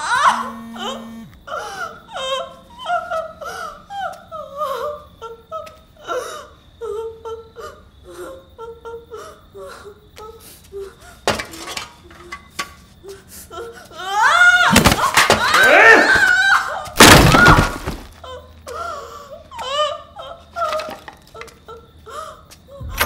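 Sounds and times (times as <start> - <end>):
woman whimpering and sobbing: 0.0 - 11.3, 13.0 - 15.8, 18.2 - 23.0.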